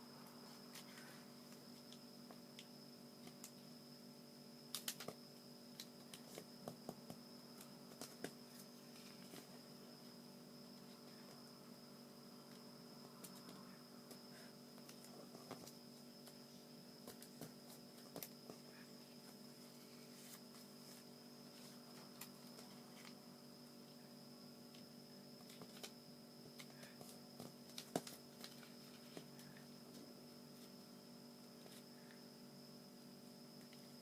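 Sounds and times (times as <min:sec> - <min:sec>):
steady electrical hum: 0:00.0 - 0:34.0.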